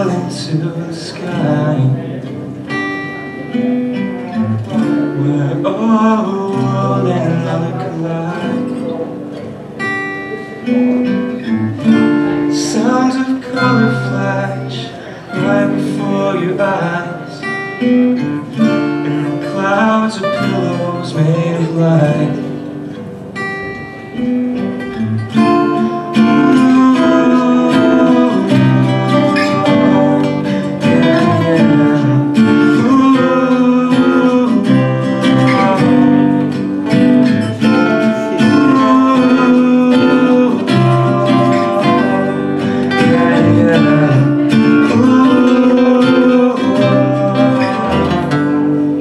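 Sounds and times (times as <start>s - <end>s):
acoustic guitars playing: 0.0s - 49.0s.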